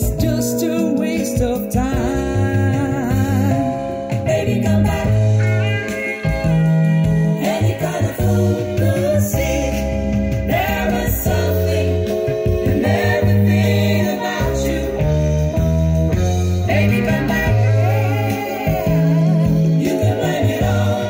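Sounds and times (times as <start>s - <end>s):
bass line: 0.0s - 21.0s
pop song with singing: 0.0s - 21.0s.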